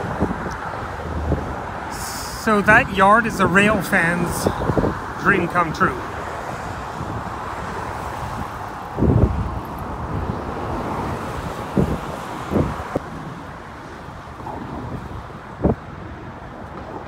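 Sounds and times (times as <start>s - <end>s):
road traffic rushing: 0.0s - 17.0s
wind noise on microphone: 0.0s - 17.0s.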